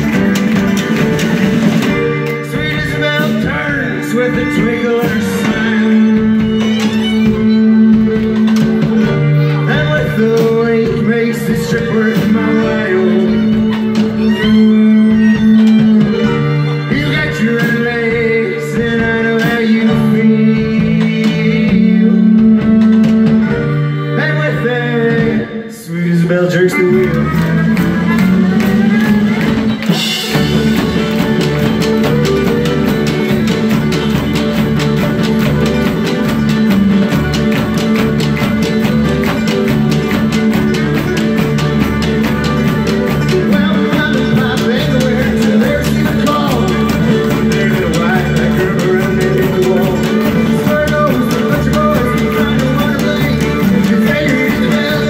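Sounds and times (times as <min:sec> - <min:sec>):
fast drum beat: 0:00.0 - 0:23.7, 0:26.9 - 0:55.0
folk-rock band playing: 0:00.0 - 0:55.0.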